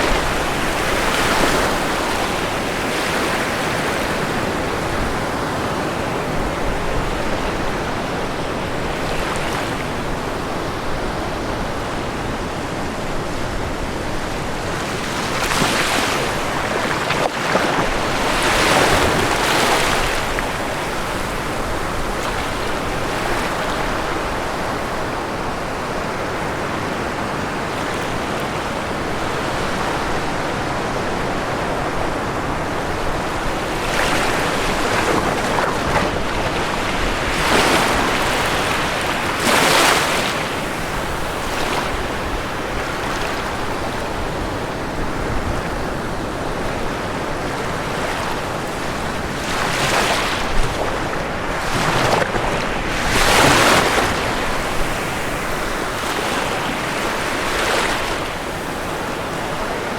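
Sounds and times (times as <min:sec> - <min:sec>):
surf washing on shore: 0:00.0 - 0:59.9
waves breaking: 0:00.0 - 0:59.9.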